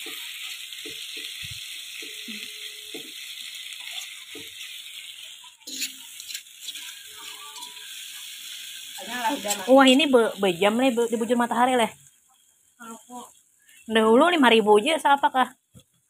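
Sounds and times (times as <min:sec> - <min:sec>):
sausages and onions sizzling in a pan: 0:00.0 - 0:16.0.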